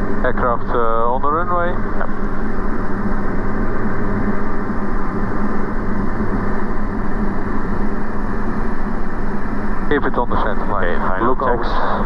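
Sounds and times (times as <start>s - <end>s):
aircraft engine droning in cabin: 0.0s - 12.0s.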